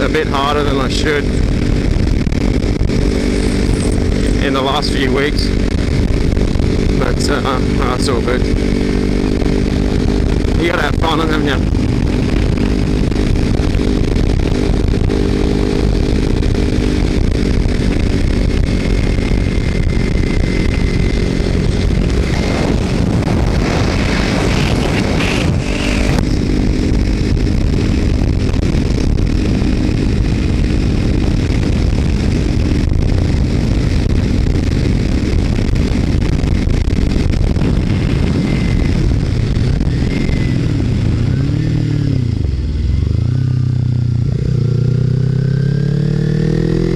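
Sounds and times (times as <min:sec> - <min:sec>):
motorcycle engine running: 0:00.0 - 0:46.9
wind noise: 0:00.0 - 0:46.9.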